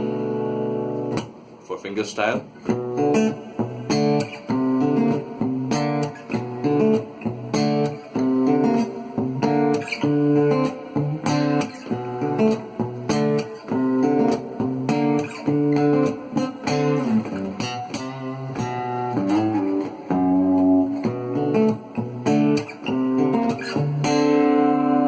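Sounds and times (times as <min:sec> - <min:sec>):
acoustic guitar strummed: 0:02.6 - 0:25.0.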